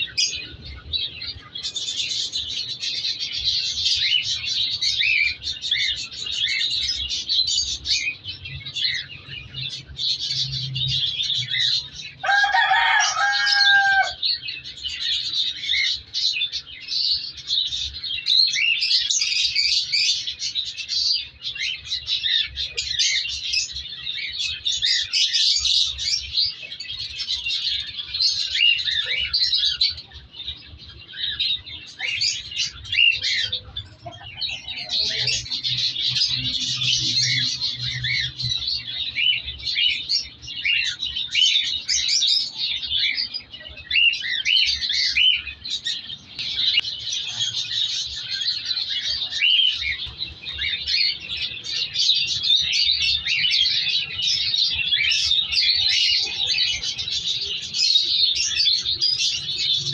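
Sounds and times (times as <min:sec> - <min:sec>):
cage birds chirping: 0:00.0 - 0:59.9.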